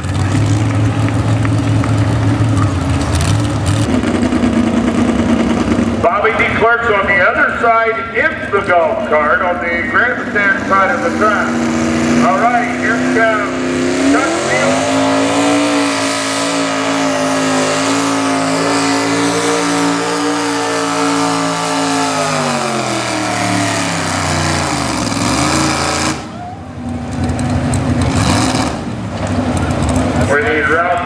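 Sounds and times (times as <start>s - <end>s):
rough noisy rumble: 0.0s - 31.0s
truck engine at full throttle: 0.0s - 31.0s.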